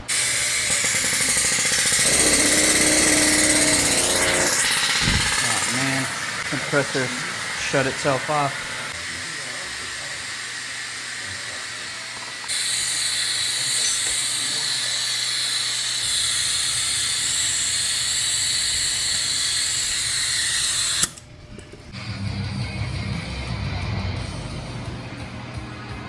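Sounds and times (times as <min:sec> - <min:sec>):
compressed air hissing: 0:00.1 - 0:21.2.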